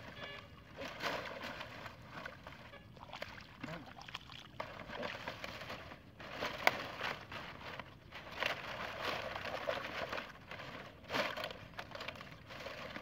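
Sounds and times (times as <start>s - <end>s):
dry palm fronds rustling: 0.0s - 3.1s, 4.6s - 13.0s.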